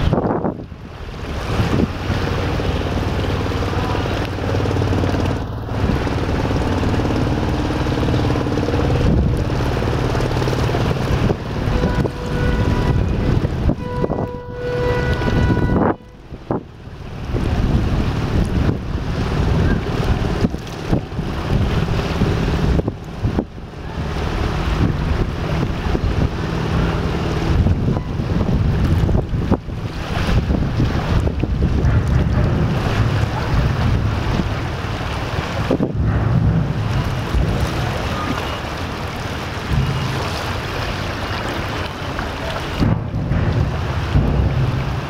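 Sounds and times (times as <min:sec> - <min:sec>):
boat engine drone: 0:00.0 - 0:45.0
choppy river water: 0:00.0 - 0:45.0
wind buffeting microphone: 0:00.0 - 0:45.0.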